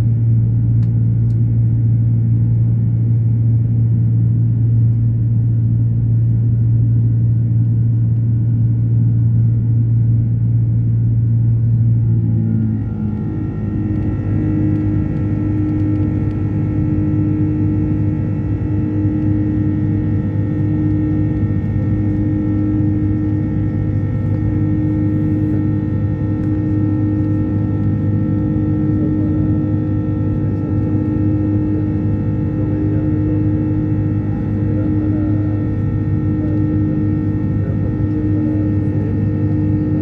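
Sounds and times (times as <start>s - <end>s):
jet engines rumbling drone: 0.0s - 40.0s.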